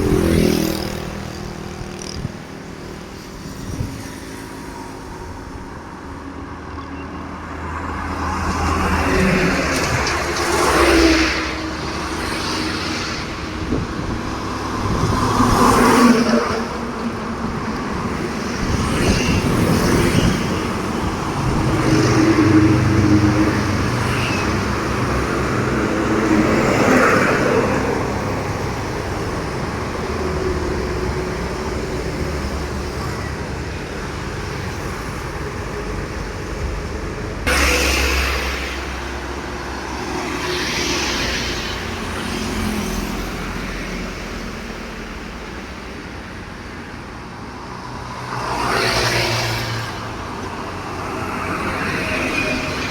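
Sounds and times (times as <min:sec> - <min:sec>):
heavy trucks passing: 0:00.0 - 0:52.9.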